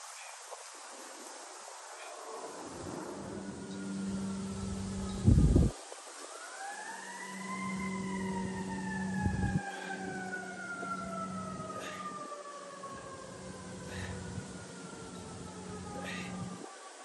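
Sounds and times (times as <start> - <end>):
siren wailing: 2.0 - 17.0.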